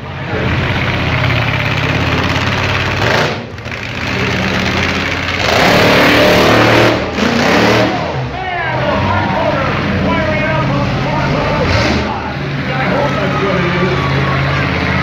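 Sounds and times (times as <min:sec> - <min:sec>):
monster truck engine running: 0:00.0 - 0:15.0.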